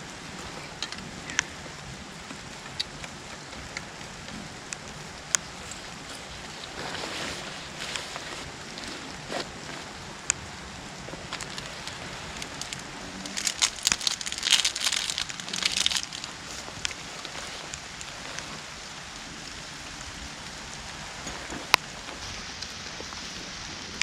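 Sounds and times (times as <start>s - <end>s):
crackling rustles: 0.0s - 24.0s
rain patter: 0.0s - 24.0s.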